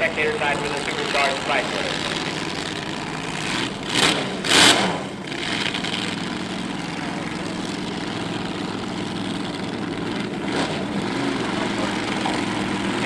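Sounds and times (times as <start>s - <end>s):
dragster engines idling: 0.0s - 13.0s.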